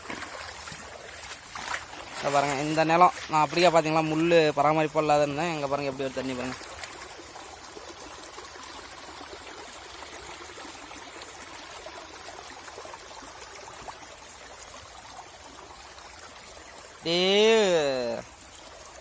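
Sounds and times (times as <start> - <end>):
fast water flowing in channel: 0.0 - 19.0.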